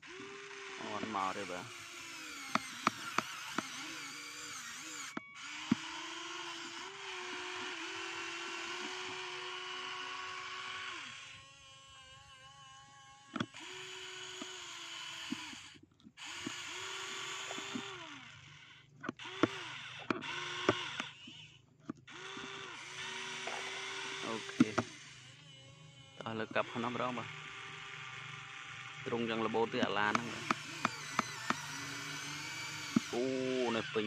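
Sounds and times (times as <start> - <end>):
small electric motors whining: 0.0 - 34.0.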